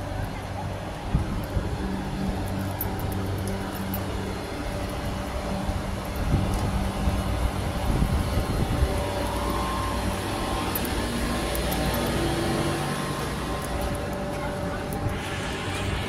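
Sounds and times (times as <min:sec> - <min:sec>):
busy outdoor ambience: 0:00.0 - 0:16.0
low mechanical hum: 0:00.0 - 0:16.0
low rumbling on microphone: 0:00.0 - 0:16.0.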